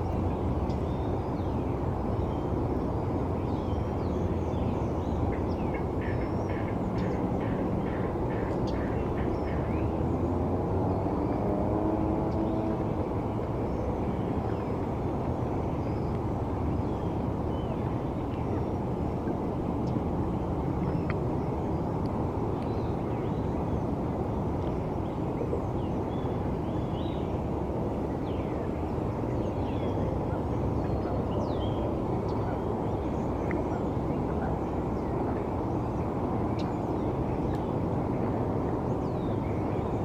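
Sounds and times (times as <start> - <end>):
distant city traffic rumble: 0.0 - 40.0.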